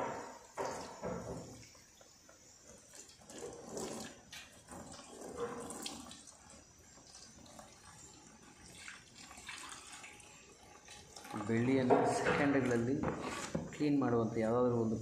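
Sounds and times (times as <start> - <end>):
liquid splashing and dripping: 0.5 - 12.8.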